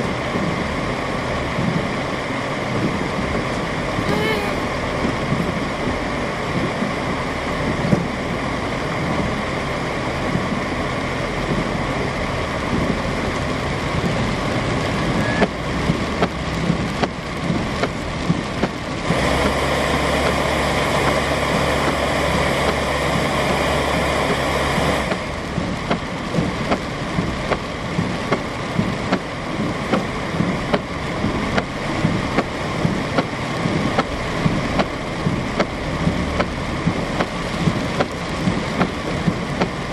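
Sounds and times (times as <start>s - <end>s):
heavy rain pattering: 0.0s - 39.9s
low engine hum: 0.0s - 39.9s
vehicles on wet streets: 0.0s - 39.9s.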